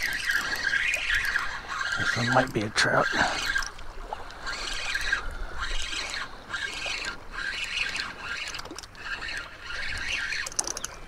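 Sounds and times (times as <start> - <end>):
fishing reel whirring: 0.0 - 11.0.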